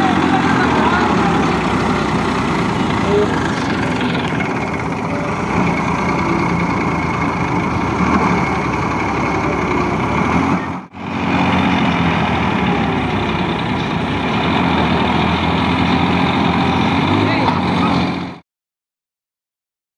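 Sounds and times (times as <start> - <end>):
tractor diesel engine running: 0.0 - 18.4.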